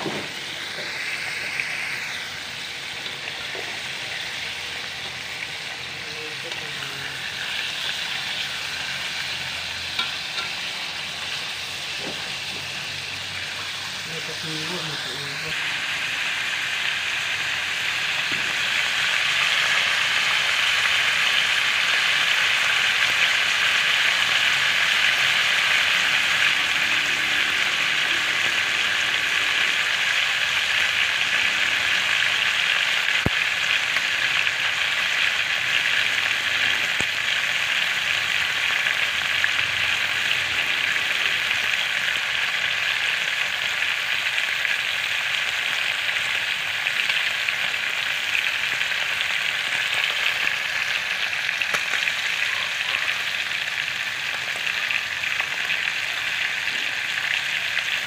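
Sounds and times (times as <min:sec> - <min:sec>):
liver sizzling in hot oil: 0:00.0 - 0:58.0.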